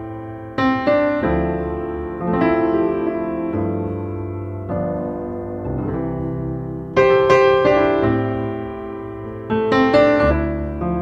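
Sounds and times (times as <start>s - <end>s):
piano chords: 0.0s - 11.0s.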